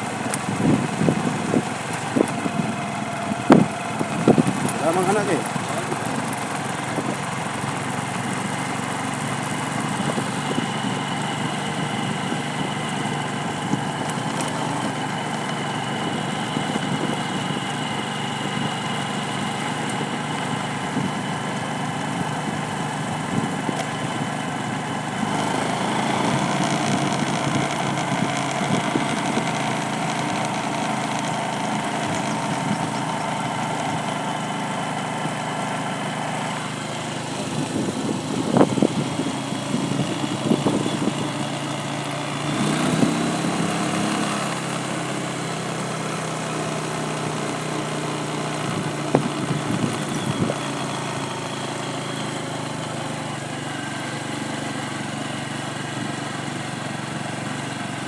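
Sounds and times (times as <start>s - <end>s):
road noise: 0.0s - 58.0s
vehicle engine running: 0.0s - 58.0s.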